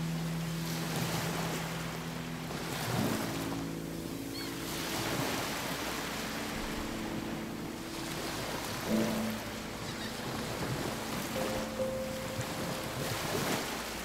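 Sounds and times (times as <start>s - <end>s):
sea and wind: 0.0s - 14.0s
soft ambient music: 0.0s - 14.0s.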